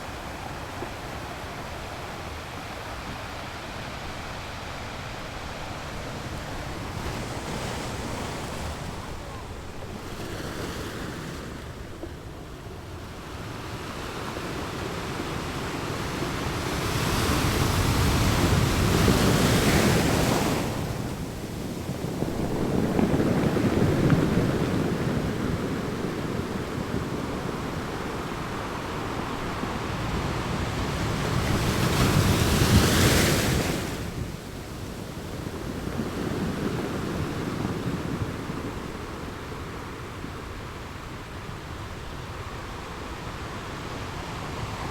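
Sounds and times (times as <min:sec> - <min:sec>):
surf wash: 0:00.0 - 0:44.9
waves crashing on shore: 0:00.0 - 0:44.9.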